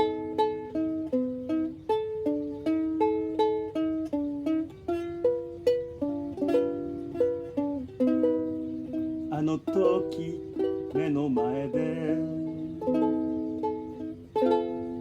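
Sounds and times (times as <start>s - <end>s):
ukulele plucked chords: 0.0s - 15.0s.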